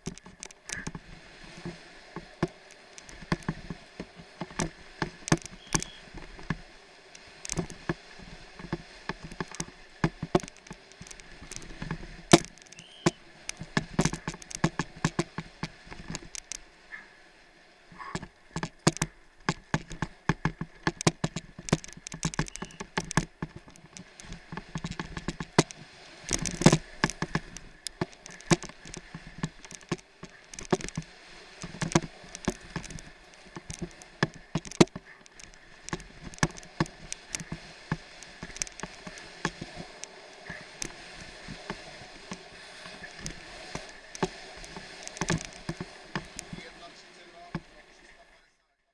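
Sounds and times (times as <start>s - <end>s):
bike rattling over rough trail: 0.0s - 6.7s, 7.4s - 17.1s, 17.9s - 48.3s
wind and tyre rush: 0.0s - 46.9s.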